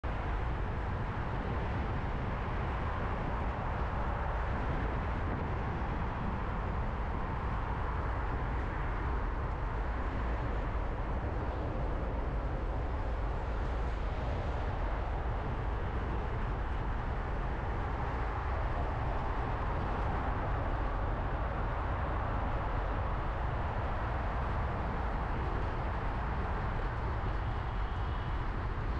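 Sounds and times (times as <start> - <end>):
traffic noise: 0.0 - 28.9
wind: 0.0 - 28.9.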